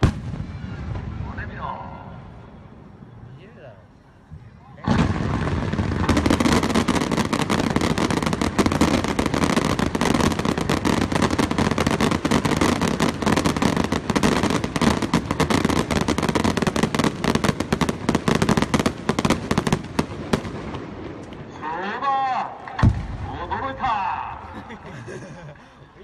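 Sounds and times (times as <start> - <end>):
fireworks bangs and crackles: 0.0 - 2.6, 4.3 - 24.2.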